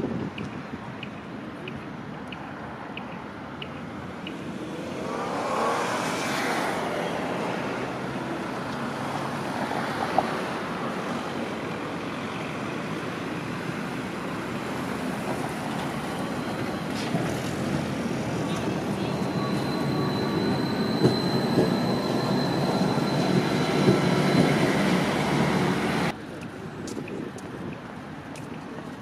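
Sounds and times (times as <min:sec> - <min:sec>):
cars driving on wet street: 0:00.0 - 0:29.0
tram approaching: 0:00.0 - 0:29.0.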